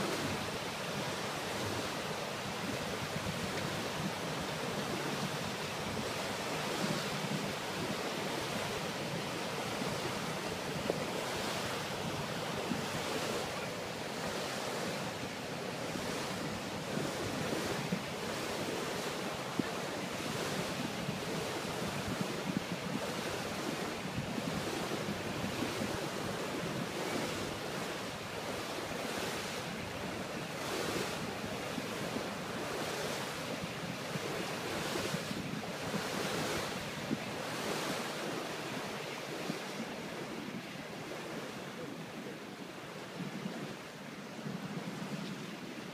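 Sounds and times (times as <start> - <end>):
water rushing around a boat: 0.0 - 45.9
wind buffeting microphone: 0.0 - 45.9.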